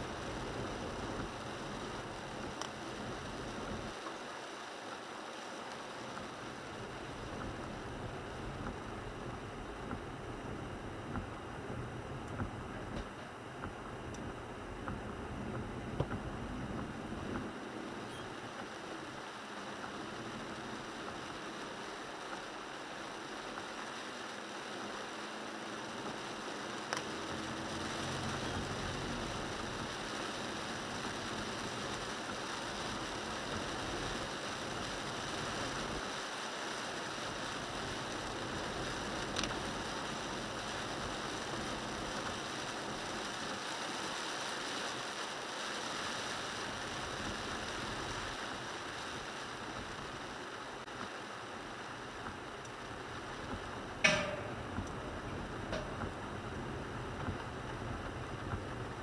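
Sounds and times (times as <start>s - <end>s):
tyres hissing on wet road: 0.0s - 54.1s, 54.7s - 59.0s
rain falling: 0.0s - 59.0s.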